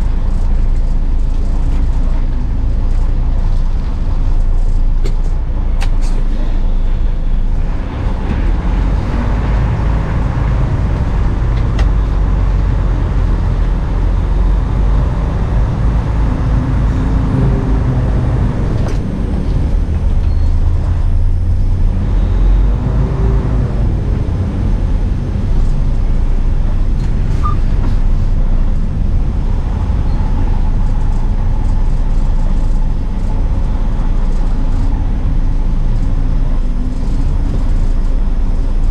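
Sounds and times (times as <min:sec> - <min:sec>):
truck engine and road noise: 0:00.0 - 0:38.9.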